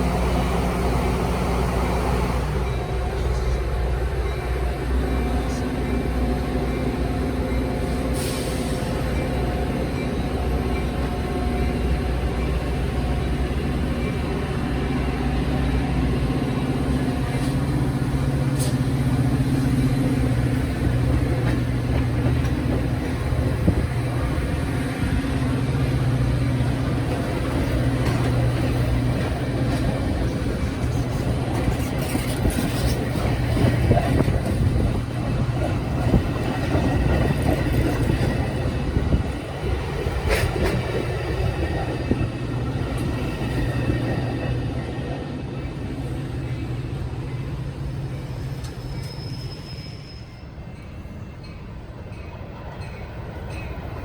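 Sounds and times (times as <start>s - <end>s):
diesel locomotive engine running: 0.0s - 48.8s
train rumble: 0.0s - 54.0s.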